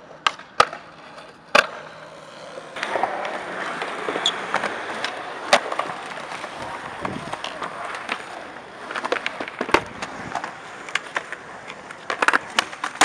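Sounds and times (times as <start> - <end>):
skateboard clacking: 0.0 - 13.0
skateboard wheels rolling: 0.0 - 13.0.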